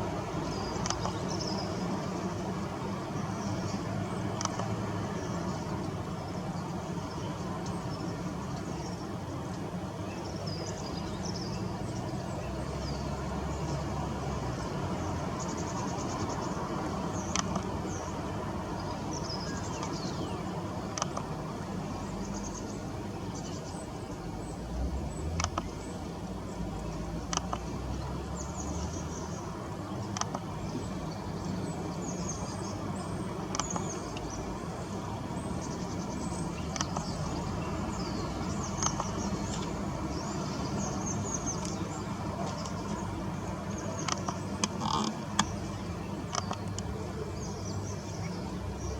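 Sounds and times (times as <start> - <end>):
distant traffic rumble: 0.0 - 48.9
small birds chirping: 0.0 - 48.9.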